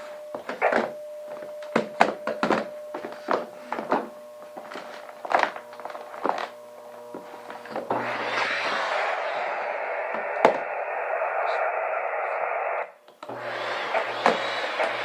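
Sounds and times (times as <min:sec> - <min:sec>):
faint steady tone: 0:00.0 - 0:13.3.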